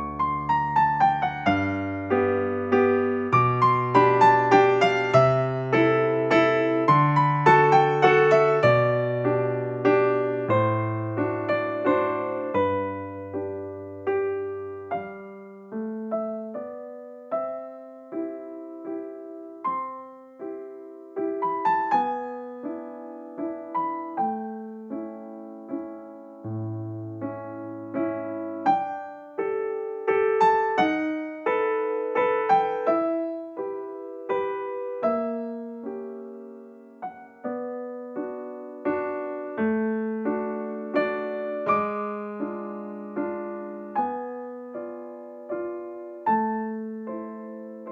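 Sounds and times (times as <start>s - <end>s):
gentle piano melody: 0.0s - 47.9s.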